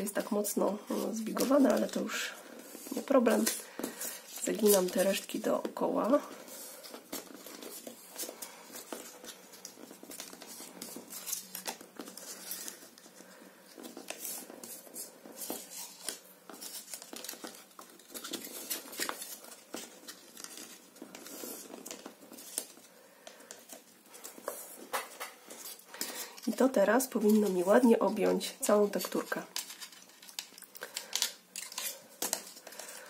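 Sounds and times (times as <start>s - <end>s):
paper rustling and crinkling: 0.0s - 33.0s.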